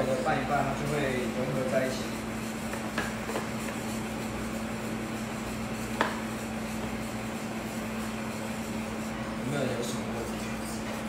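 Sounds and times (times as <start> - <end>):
steady low hum: 0.0 - 11.0
utensil stirring in a metal bowl: 0.0 - 11.0.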